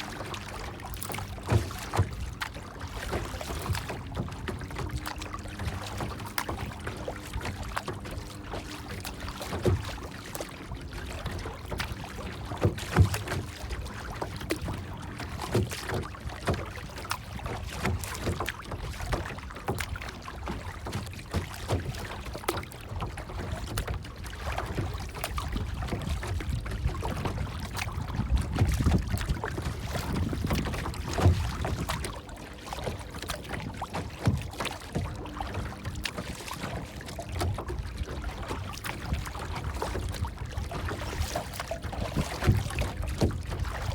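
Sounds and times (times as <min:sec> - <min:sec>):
water lapping and splashing: 0:00.0 - 0:43.9
water slaps: 0:00.0 - 0:43.9.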